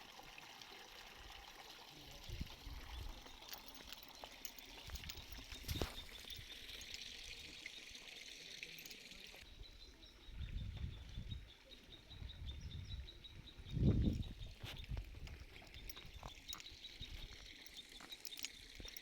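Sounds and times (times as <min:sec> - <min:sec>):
insects and water hissing: 0:00.0 - 0:19.0.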